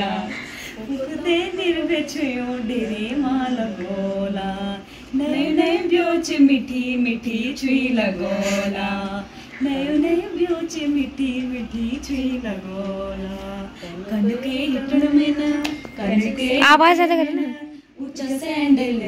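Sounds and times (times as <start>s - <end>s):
women singing unaccompanied: 0.0s - 19.0s.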